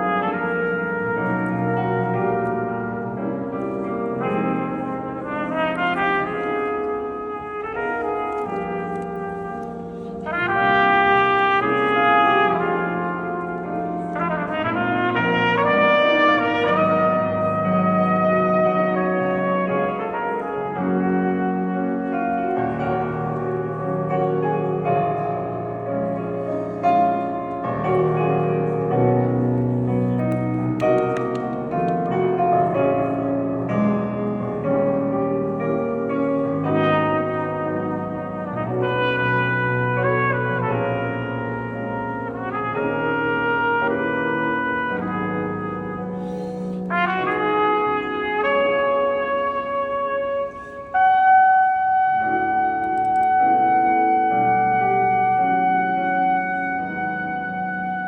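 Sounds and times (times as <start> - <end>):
piano accompaniment: 0.0 - 58.0
trumpet playing slow melody: 0.0 - 58.0.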